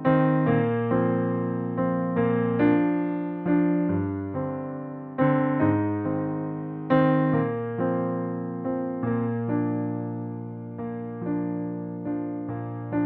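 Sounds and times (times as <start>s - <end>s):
slow electric piano chords: 0.0s - 13.0s.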